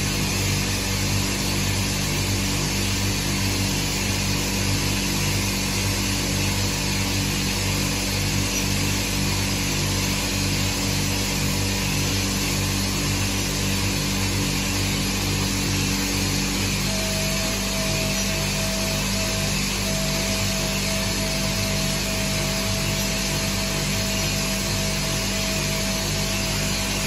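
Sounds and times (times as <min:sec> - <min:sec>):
pulsing low machine hum: 0:00.0 - 0:27.0.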